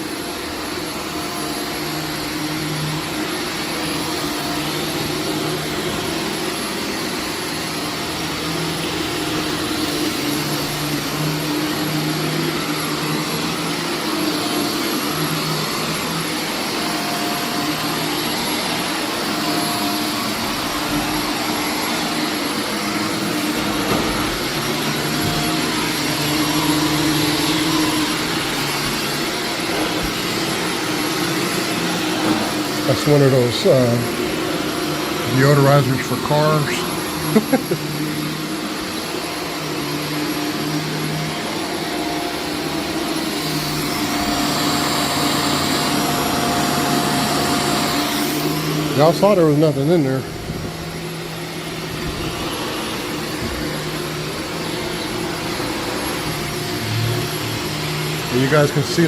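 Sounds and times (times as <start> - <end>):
carpet vacuum humming: 0.0 - 59.0.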